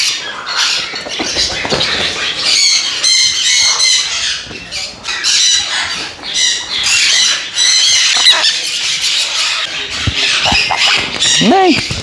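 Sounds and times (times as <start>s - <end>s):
parrots squawking: 0.0s - 11.8s.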